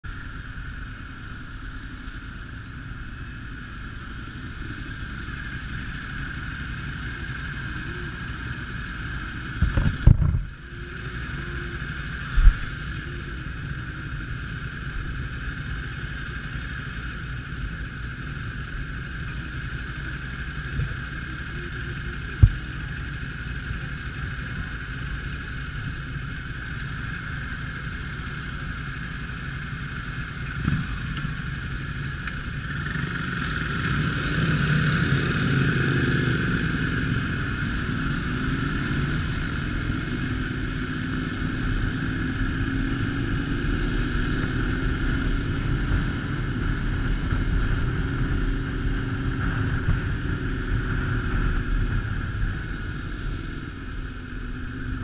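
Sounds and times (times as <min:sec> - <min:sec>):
motorcycle engines idling: 0:00.0 - 0:55.0.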